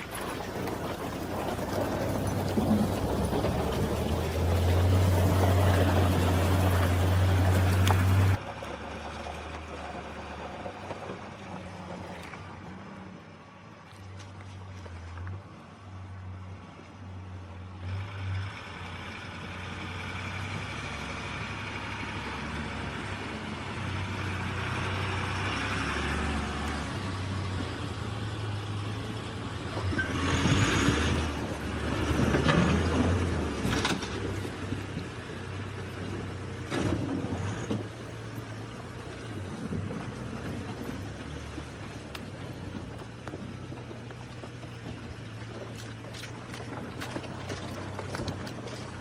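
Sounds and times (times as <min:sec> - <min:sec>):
heavy vehicle engine running: 0:00.0 - 0:49.0.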